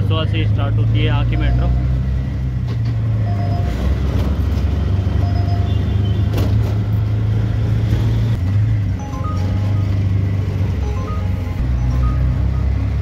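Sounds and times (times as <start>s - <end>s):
auto-rickshaw engine droning: 0.0s - 13.0s
road noise: 0.0s - 13.0s.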